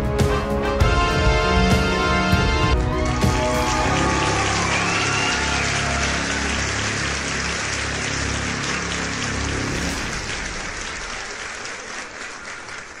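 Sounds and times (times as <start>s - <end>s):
music: 0.0s - 13.0s
crowd applause: 2.3s - 13.0s.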